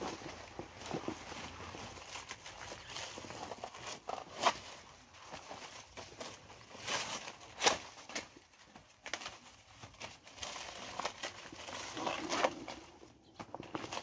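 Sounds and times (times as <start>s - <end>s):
dry leaves crackling and tearing: 0.0s - 14.0s.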